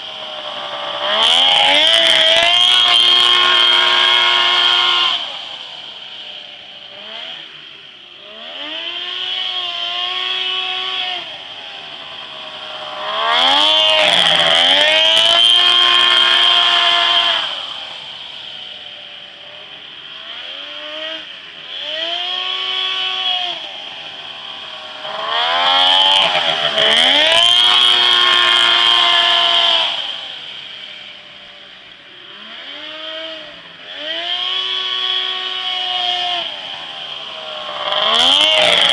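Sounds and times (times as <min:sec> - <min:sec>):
buggy engine revving: 0:00.0 - 0:38.9.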